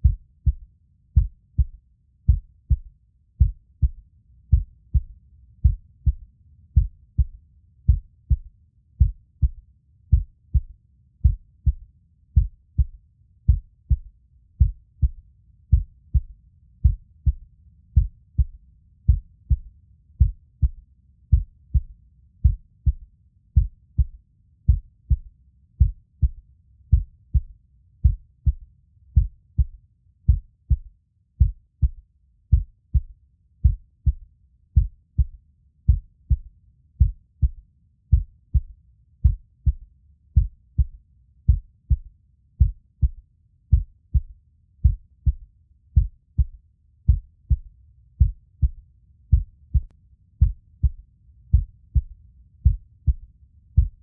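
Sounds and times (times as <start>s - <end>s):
heartbeat thuds: 0.0s - 17.4s, 18.0s - 54.0s
faint low rumble: 0.0s - 54.0s.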